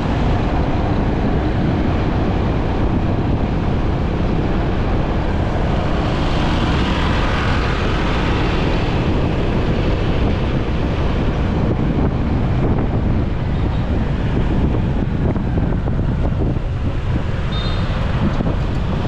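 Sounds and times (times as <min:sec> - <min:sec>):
traffic road noise: 0:00.0 - 0:19.0
wind buffeting microphone: 0:00.0 - 0:19.0.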